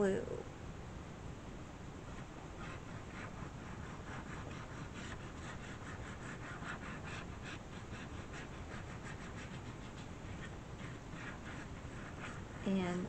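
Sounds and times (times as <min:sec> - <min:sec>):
scratchy glue brush strokes on paper: 0:02.0 - 0:13.0.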